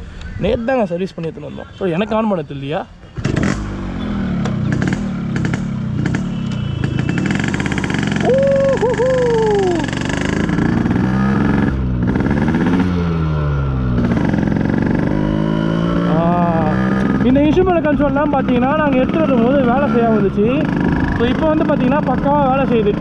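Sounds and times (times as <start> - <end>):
motorcycle engine revving: 3.2 - 23.0.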